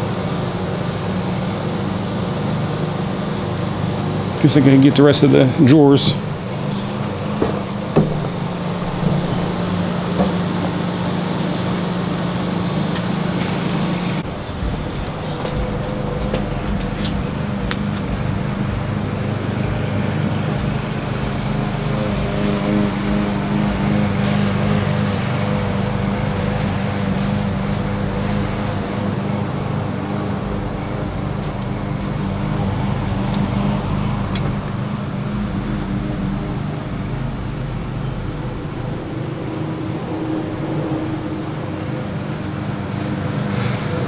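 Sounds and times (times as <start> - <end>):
droning low tone: 0.0 - 44.0
machine humming: 0.0 - 44.0.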